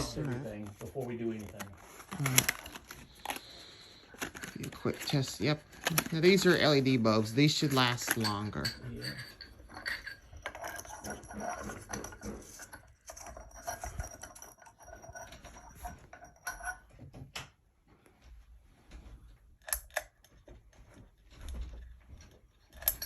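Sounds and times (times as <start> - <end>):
light bulbs clinking and rattling: 0.0 - 17.5, 19.6 - 23.0.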